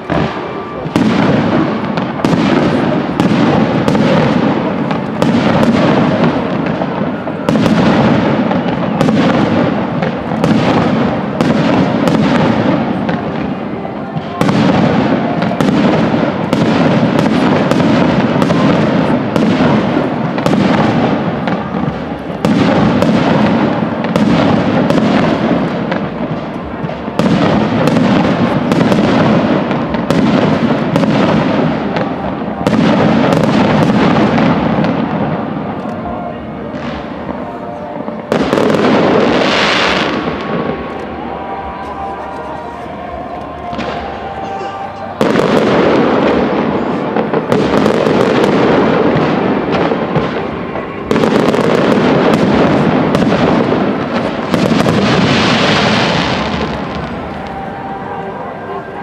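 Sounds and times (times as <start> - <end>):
steady din: 0.0 - 59.0.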